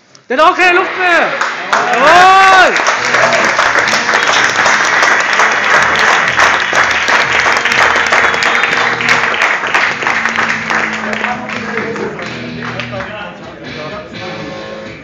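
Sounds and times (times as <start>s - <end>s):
audience applauding: 0.6s - 13.3s.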